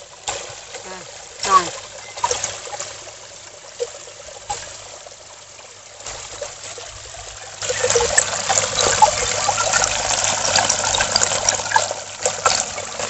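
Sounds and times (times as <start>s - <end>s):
small splashes: 0.0s - 13.0s
water trickling into a pool: 0.0s - 13.0s.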